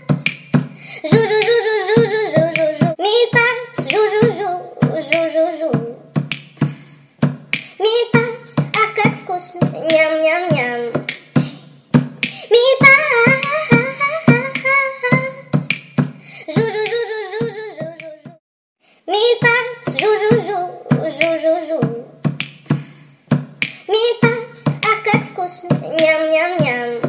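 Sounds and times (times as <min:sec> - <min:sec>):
steady clicking beat: 0:00.0 - 0:03.0, 0:03.8 - 0:10.0, 0:11.0 - 0:18.4, 0:19.9 - 0:26.0
high wordless vocal melody: 0:00.0 - 0:07.0, 0:07.6 - 0:11.6, 0:12.2 - 0:15.8, 0:16.4 - 0:18.4, 0:19.1 - 0:23.0, 0:23.6 - 0:27.0.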